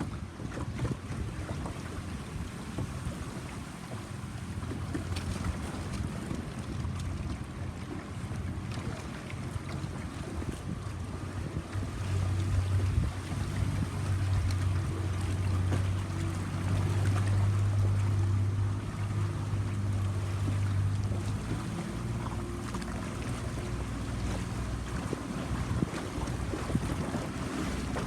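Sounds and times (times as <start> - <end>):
boat engine humming: 0.0 - 28.0
water noise: 0.0 - 28.0
wind: 0.0 - 28.0.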